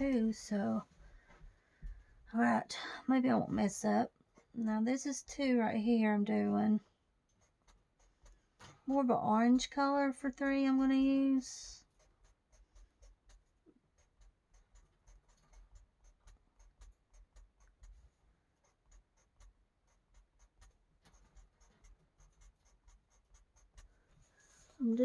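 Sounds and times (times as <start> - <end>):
marker scratching on paper: 3.2 - 25.0.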